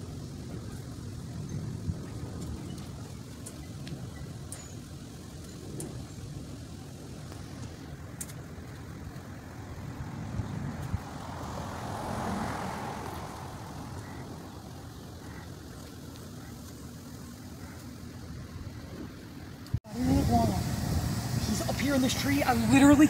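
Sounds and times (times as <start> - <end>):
vehicle road rumble: 0.0 - 23.0.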